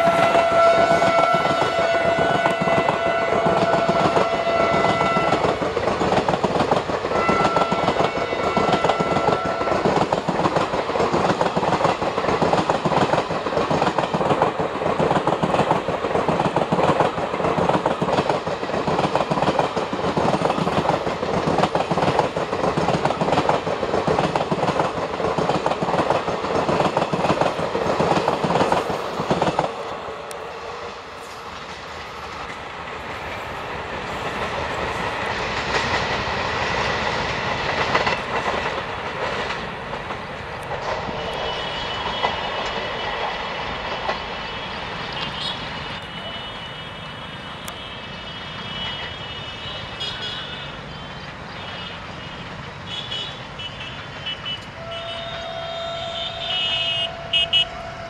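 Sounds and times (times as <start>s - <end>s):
train wheels clattering over rails: 0.0s - 47.0s.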